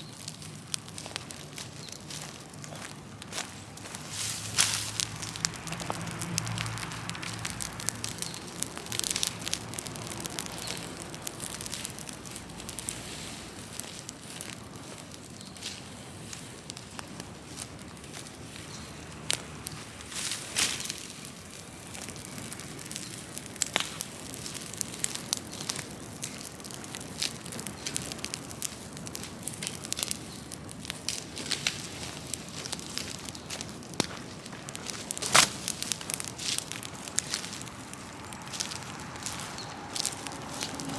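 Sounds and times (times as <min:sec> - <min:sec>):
bonfire crackling and popping: 0:00.0 - 0:40.9
fire hissing: 0:00.0 - 0:40.9.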